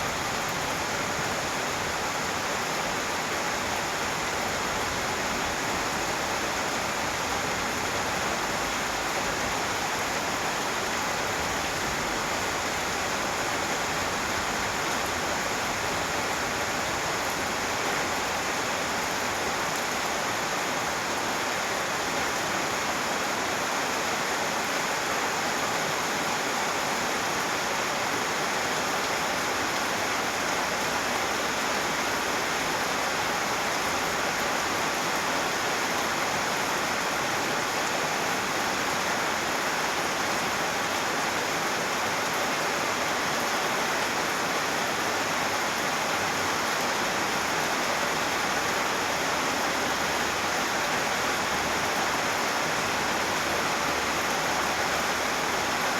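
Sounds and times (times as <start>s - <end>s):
steady rainfall: 0.0s - 55.9s.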